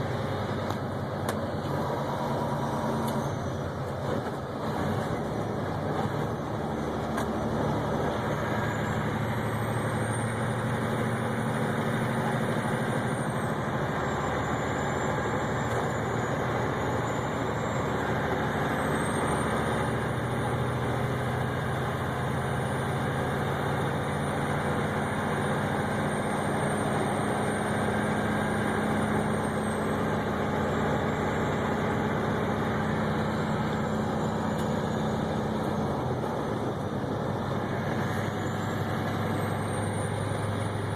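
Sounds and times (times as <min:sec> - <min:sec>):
road noise: 0:00.0 - 0:40.9
vehicle engine drone: 0:00.0 - 0:40.9.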